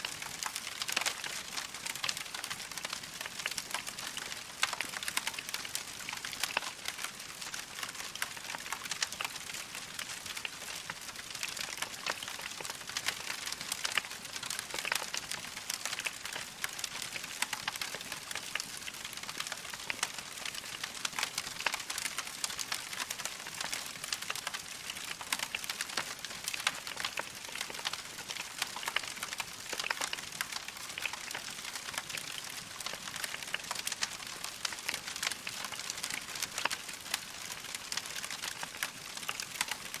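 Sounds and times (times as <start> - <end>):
wood fire crackling: 0.1 - 40.0.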